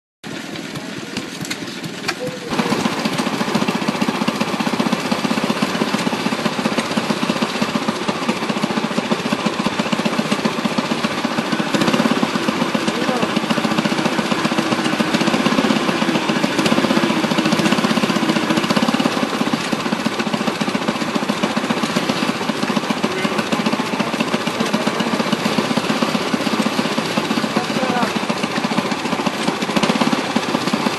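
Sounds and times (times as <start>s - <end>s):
belt-driven shaft machinery: 0.2s - 30.9s
stationary engine clattering: 0.2s - 30.9s.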